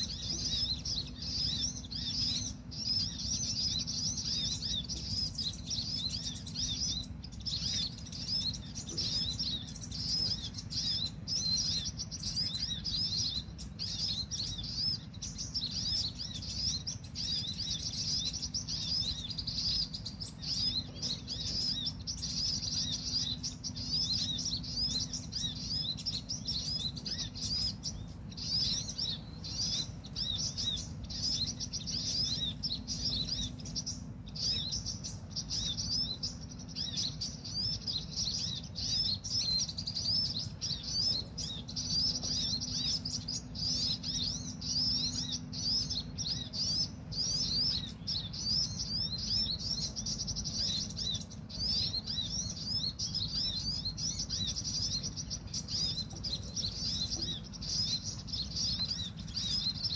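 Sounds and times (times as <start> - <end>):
small songbirds twittering: 0.0 - 59.9.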